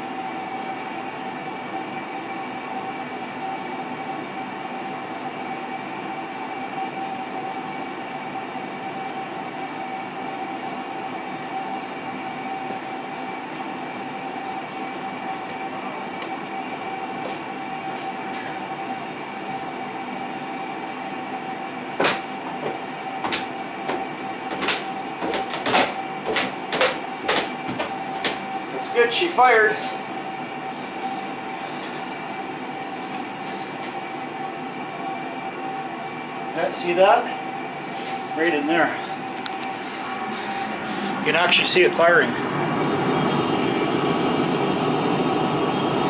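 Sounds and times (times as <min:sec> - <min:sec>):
oil burner humming and whining: 0:00.0 - 0:46.0.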